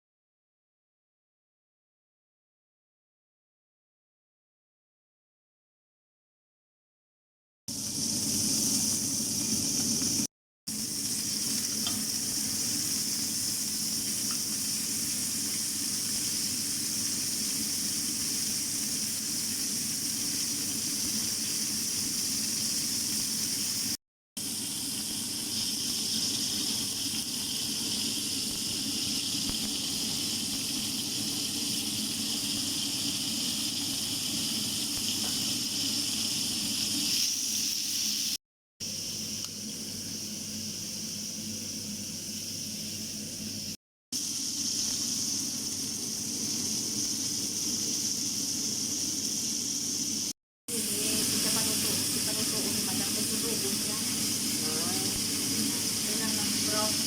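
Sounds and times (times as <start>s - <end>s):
food sizzling in a hot pan: 7.7s - 57.0s.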